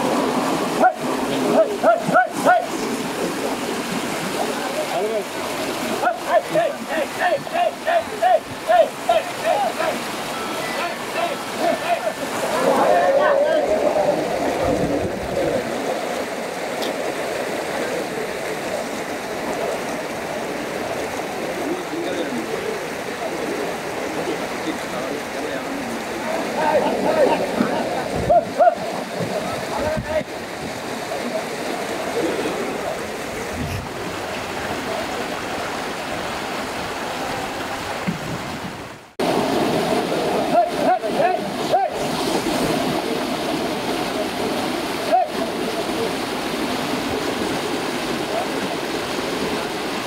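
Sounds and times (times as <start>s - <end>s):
water rushing and splashing: 0.0s - 50.0s.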